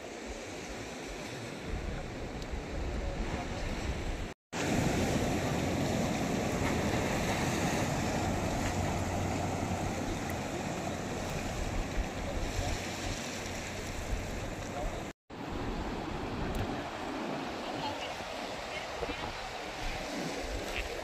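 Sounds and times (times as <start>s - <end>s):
distant sea surf: 0.0s - 21.0s
wind on microphone: 0.2s - 21.0s.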